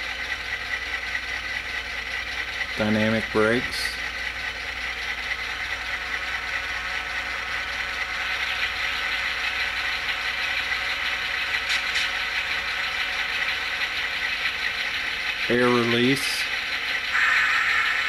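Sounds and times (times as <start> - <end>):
blower fans whirring: 0.0 - 18.0
diesel engine idling: 0.0 - 18.0.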